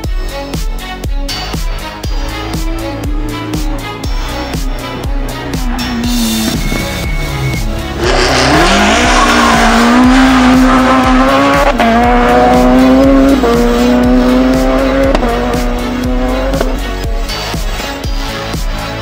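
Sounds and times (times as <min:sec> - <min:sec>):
music with steady beat: 0:00.0 - 0:19.0
rally car engine shifting gears: 0:02.0 - 0:18.0.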